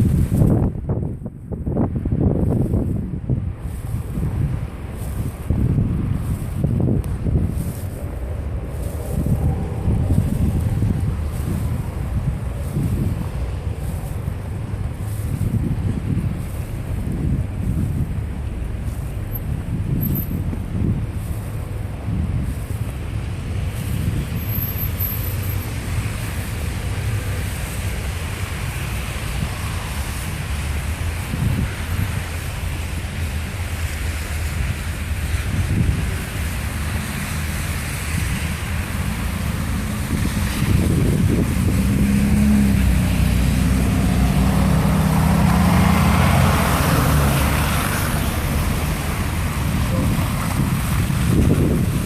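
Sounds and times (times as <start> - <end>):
vehicle engine humming: 0.0 - 52.0
wind buffeting microphone: 0.0 - 52.0.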